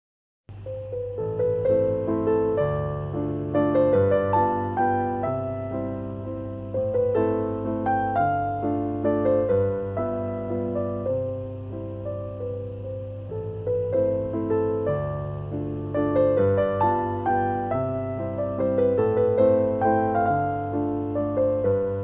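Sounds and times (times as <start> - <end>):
slow piano melody: 0.5 - 22.0
steady low tone: 0.5 - 22.0.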